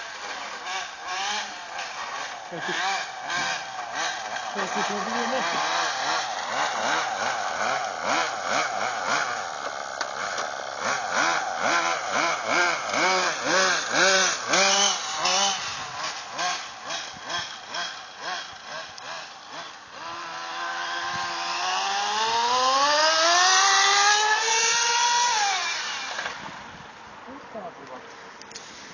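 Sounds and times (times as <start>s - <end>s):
toy car motor revving: 0.0s - 26.6s.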